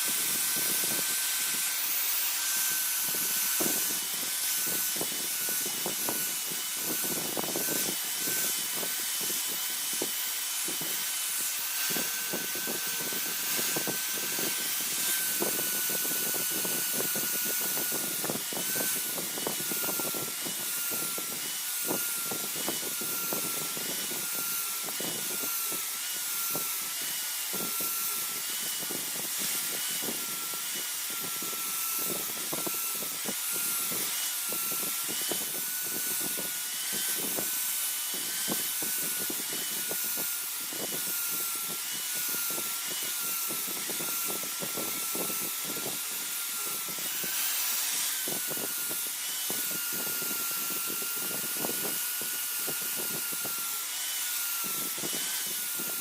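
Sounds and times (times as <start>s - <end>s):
electric grinder whining: 0.0s - 56.0s
grinder scraping hiss on steel: 0.0s - 56.0s.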